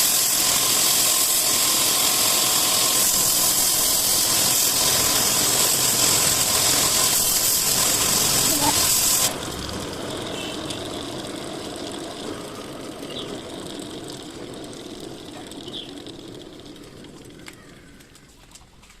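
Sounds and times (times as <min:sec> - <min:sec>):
motor running with low rumble: 0:00.0 - 0:18.9.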